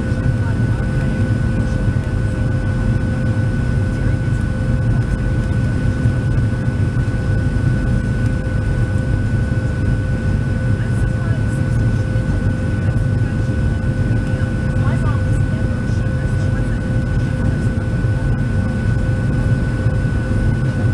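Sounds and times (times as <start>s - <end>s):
airplane engines droning: 0.0s - 20.9s.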